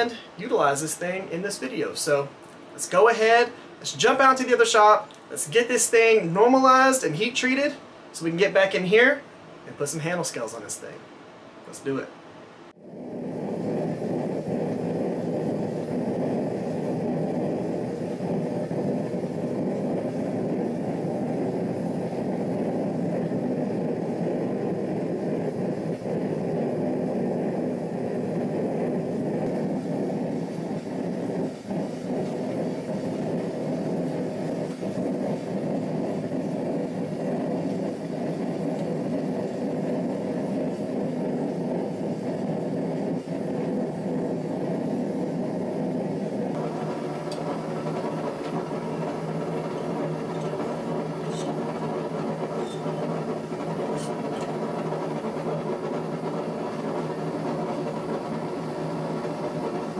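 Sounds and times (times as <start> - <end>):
gas burner roaring: 0.0 - 11.0, 12.6 - 59.9.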